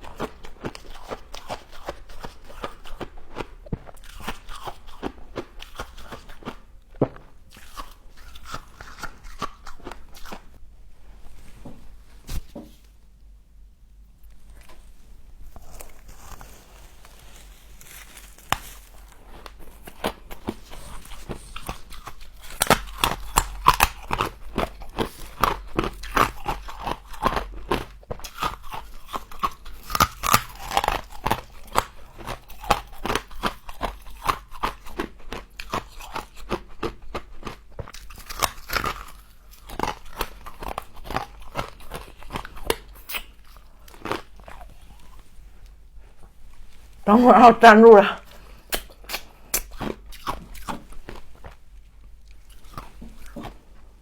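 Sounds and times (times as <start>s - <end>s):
frost being chewed crunching: 0.0s - 10.6s, 14.2s - 54.0s.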